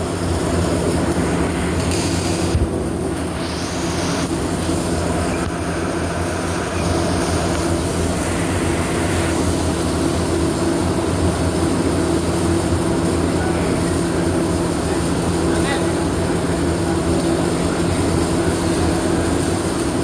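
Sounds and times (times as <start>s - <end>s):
machinery hum and hiss: 0.0s - 20.0s.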